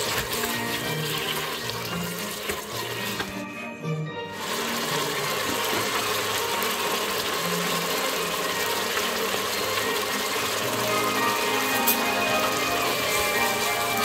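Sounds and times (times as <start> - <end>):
vegetables sizzling in a pot: 0.0 - 3.5, 4.3 - 14.0
soft background music: 0.0 - 14.0.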